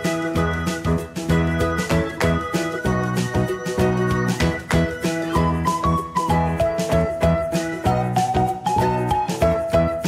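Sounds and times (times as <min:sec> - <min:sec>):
upbeat keyboard music with beat: 0:00.0 - 0:10.0.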